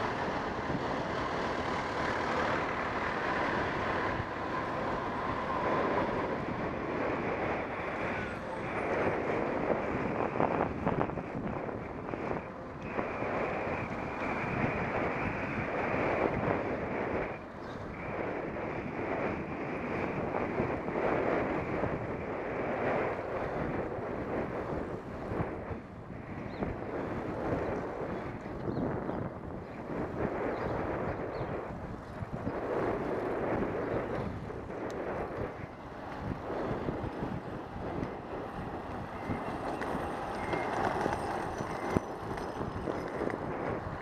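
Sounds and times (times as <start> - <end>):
wind noise on microphone: 0.0 - 44.0.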